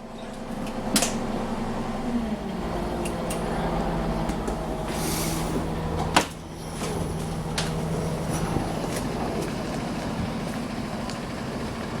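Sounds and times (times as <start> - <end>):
diesel bus engine hum: 0.0 - 12.0.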